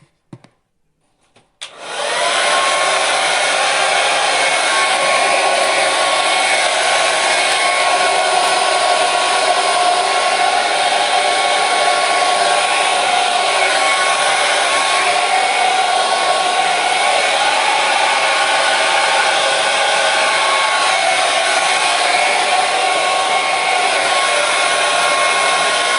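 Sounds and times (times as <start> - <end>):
hair dryer running: 1.6 - 25.9.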